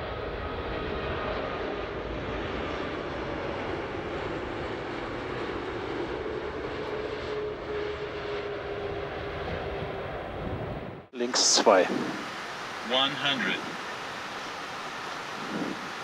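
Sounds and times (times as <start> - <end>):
faint jet whine: 0.0 - 16.0
jet engines rumbling: 0.0 - 16.0.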